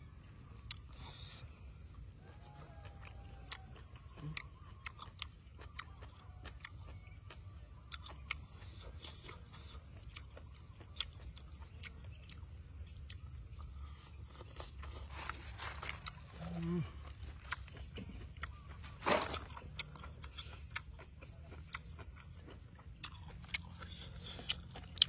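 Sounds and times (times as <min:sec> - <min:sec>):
crisp chewing: 0:00.0 - 0:25.0.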